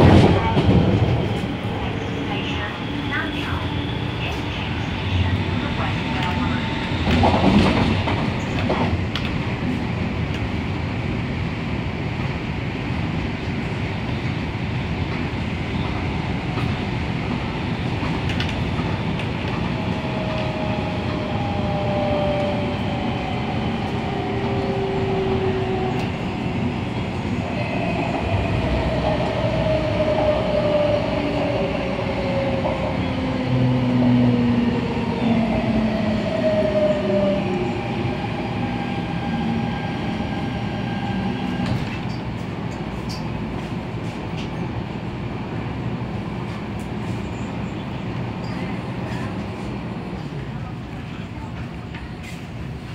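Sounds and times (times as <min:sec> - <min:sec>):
train wheel and rail noise: 0:00.0 - 0:52.9.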